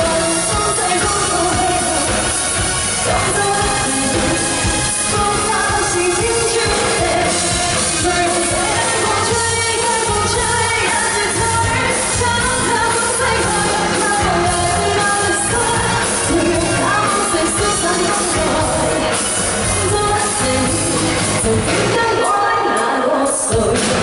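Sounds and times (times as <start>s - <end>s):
backing band playing: 0.0s - 24.0s
person singing pop song: 0.0s - 24.0s.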